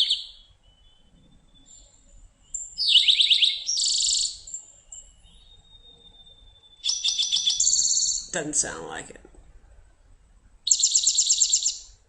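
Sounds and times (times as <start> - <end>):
bird song with trill: 0.0 - 8.4, 10.6 - 12.0.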